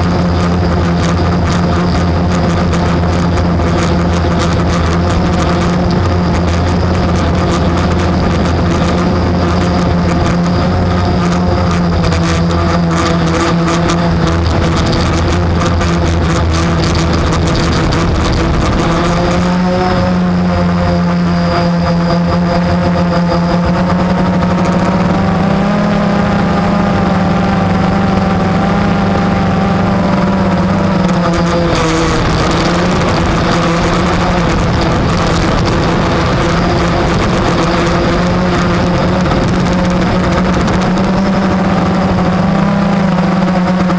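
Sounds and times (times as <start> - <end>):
quadcopter motors buzzing: 0.0 - 43.9.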